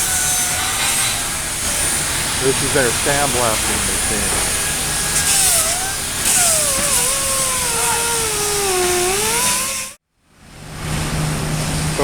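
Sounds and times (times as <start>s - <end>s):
sandblasting machine hissing: 0.1s - 10.0s.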